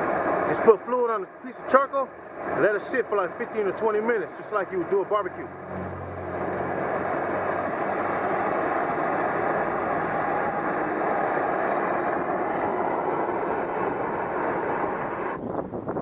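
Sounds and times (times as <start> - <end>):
blowtorch flame burning: 0.0 - 16.0.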